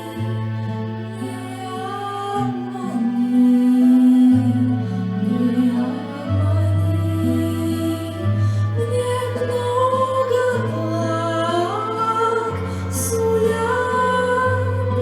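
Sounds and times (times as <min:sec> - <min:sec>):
low bass notes: 0:00.0 - 0:15.0
melody of long held notes: 0:00.0 - 0:15.0.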